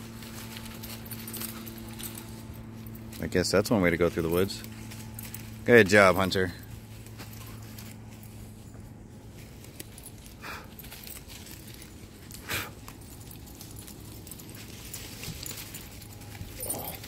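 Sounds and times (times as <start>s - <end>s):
dogs moving through leaf litter: 0.0s - 17.0s
faint low hum: 0.0s - 17.0s.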